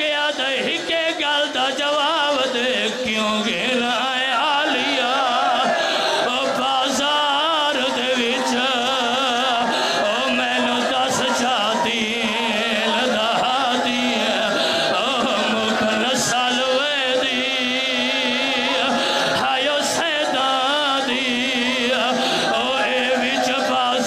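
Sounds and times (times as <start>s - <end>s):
man chanting through a loudspeaker: 0.0s - 24.0s
voices wailing: 4.3s - 24.0s.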